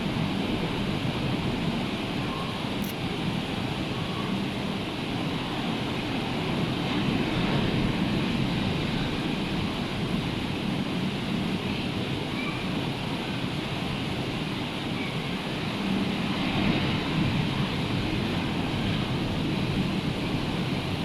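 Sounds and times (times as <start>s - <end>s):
rough sea surf breaking: 3.0s - 21.0s.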